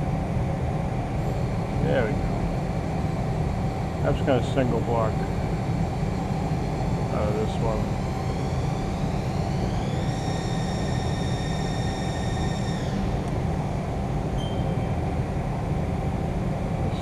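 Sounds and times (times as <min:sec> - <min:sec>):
lathe low rumble: 0:00.0 - 0:17.0
lathe spindle whine: 0:00.0 - 0:17.0.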